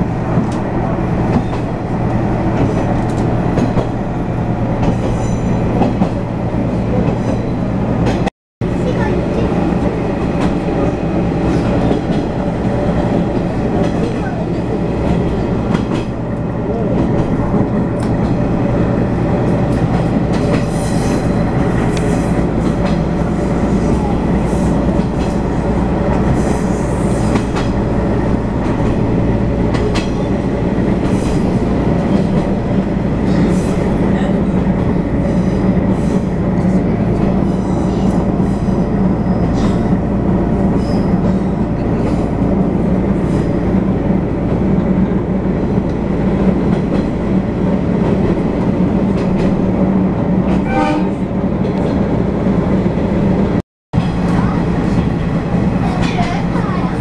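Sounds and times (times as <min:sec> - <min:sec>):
railcar engine drone: 0:00.0 - 0:57.0.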